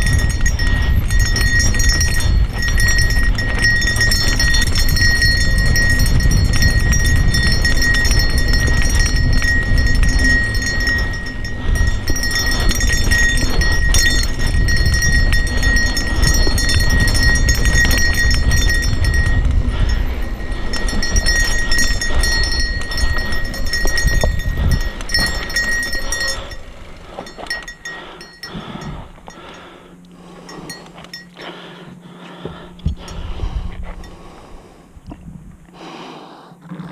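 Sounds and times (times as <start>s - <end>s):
wind rumble on microphone: 0.0s - 29.5s, 32.4s - 35.7s
bike clicks and knocks: 0.0s - 34.0s
mountain bike rattling and clattering: 0.0s - 34.5s
steady high whine: 0.0s - 36.2s.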